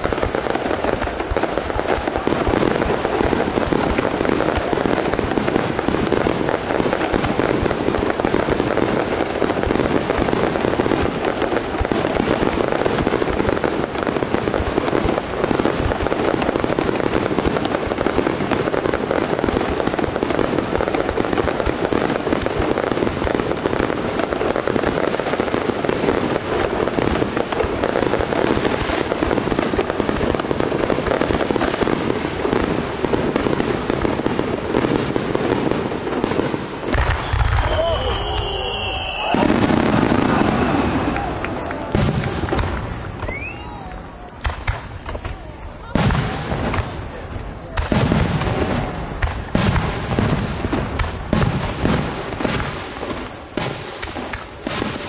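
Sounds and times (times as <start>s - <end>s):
fireworks bursting with crackling: 0.0s - 55.0s.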